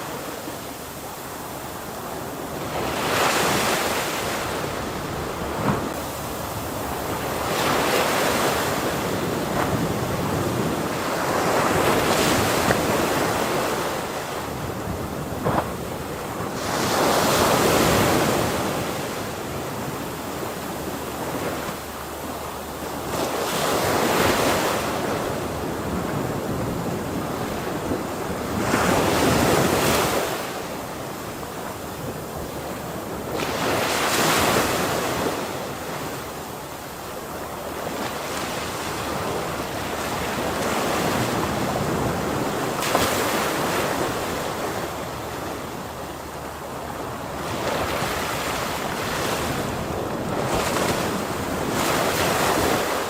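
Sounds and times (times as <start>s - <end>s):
ocean waves breaking on shore: 0.0s - 53.0s.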